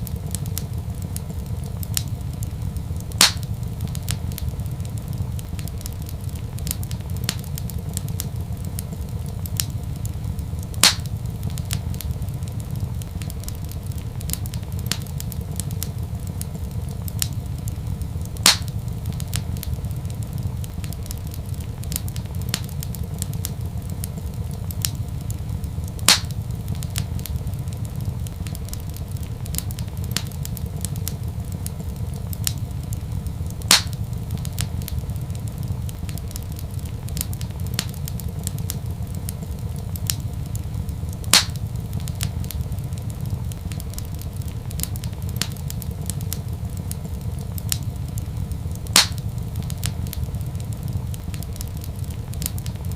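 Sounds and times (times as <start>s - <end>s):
loud fire pops: 0.0s - 52.9s
wood fire crackling: 0.0s - 52.9s.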